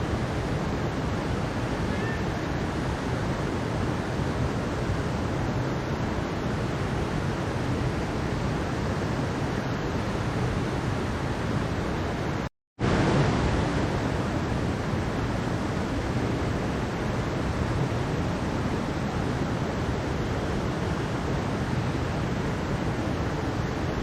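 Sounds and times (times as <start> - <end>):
mountain stream water rushing: 0.0 - 24.0.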